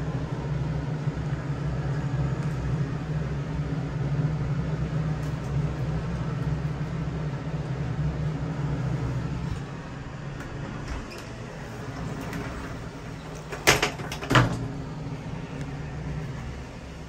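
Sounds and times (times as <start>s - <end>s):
exhaust fan humming: 0.0s - 17.0s.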